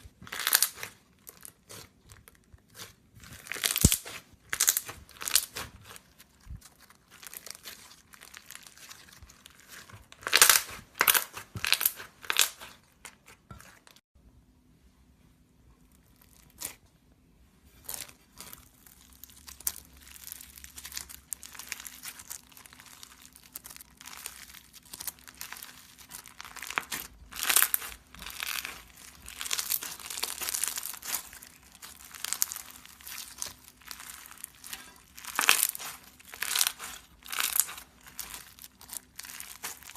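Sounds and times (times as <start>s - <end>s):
slime crackling and popping: 0.0s - 14.0s, 16.0s - 16.8s, 17.8s - 39.9s.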